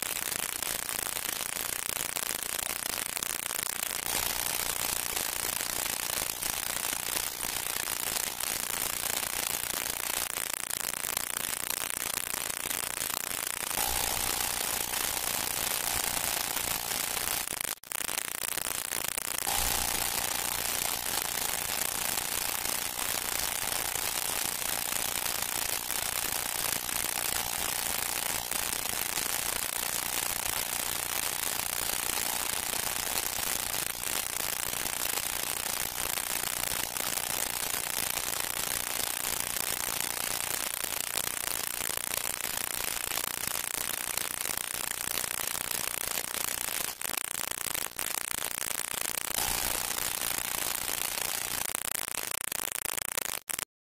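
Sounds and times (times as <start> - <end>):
film soundtrack hiss: 0.0 - 53.6
faint crackles: 0.0 - 53.7.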